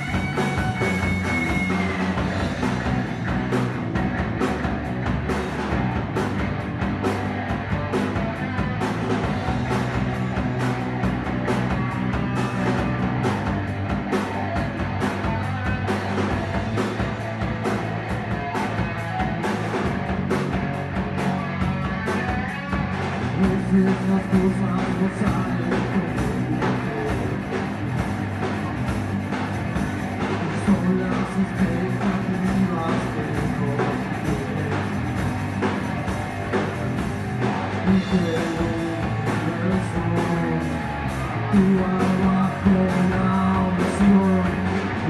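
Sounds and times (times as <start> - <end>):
bass guitar: 0.0 - 45.0
electric guitar: 0.0 - 45.0
steady drum beat: 0.0 - 45.0.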